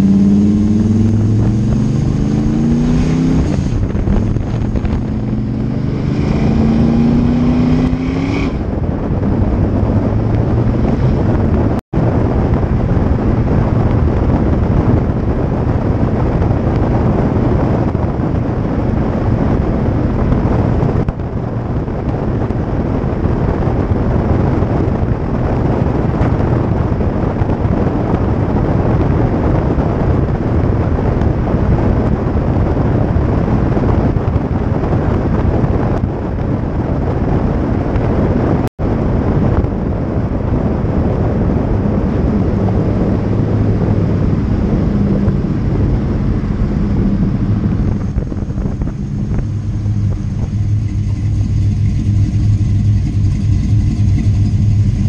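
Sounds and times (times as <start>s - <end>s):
engine exhaust rumbling: 0.0s - 55.0s
wind buffeting microphone: 0.0s - 55.0s.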